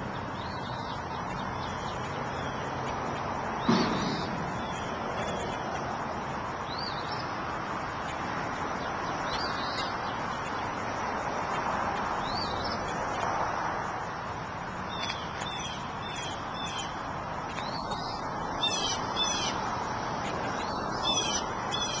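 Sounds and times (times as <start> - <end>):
steady rushing noise: 0.0 - 22.0.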